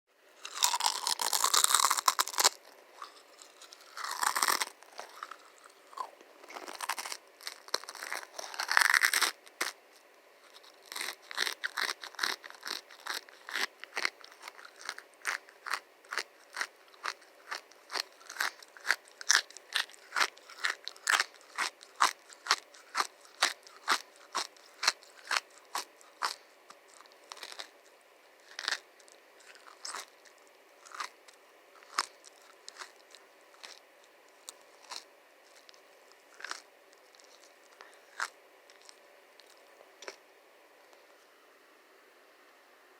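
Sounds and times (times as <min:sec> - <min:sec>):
close crunching and crackling: 0:00.4 - 0:27.8, 0:28.4 - 0:40.2.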